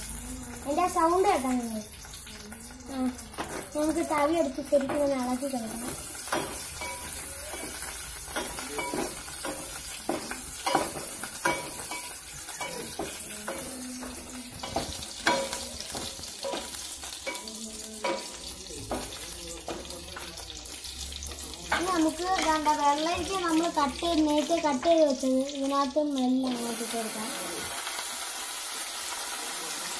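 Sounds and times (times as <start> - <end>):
food sizzling in oil: 0.0 - 29.9.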